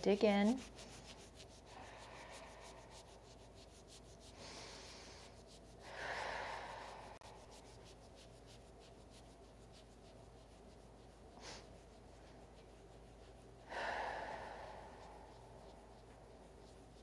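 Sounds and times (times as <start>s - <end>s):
fingertips rubbing on skin: 0.0s - 13.8s, 14.6s - 17.0s
soft rush of noise: 0.0s - 17.0s.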